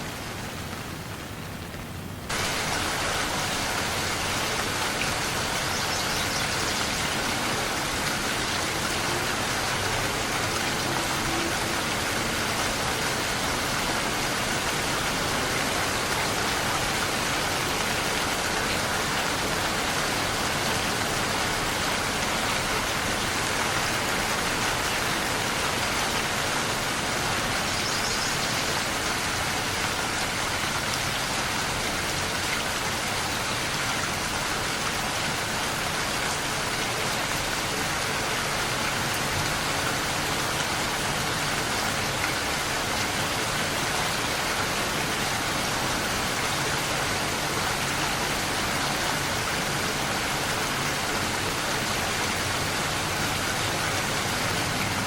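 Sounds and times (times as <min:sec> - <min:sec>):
heavy rain pattering: 0:00.0 - 0:55.0.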